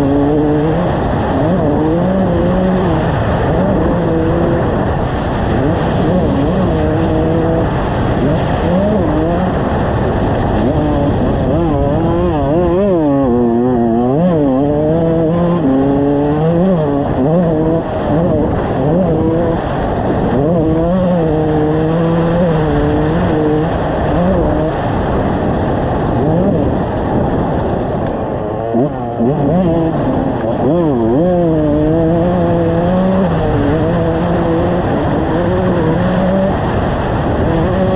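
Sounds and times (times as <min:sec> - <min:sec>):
motocross engine revving: 0:00.0 - 0:37.9.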